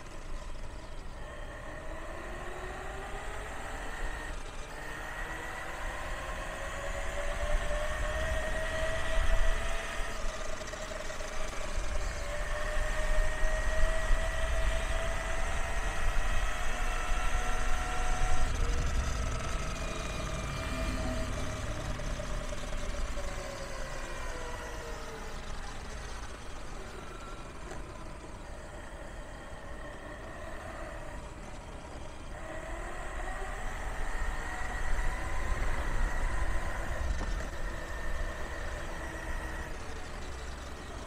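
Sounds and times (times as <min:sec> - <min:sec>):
gear drive whining: 0:00.0 - 0:41.0
wheels rumbling on pavement: 0:00.0 - 0:41.0.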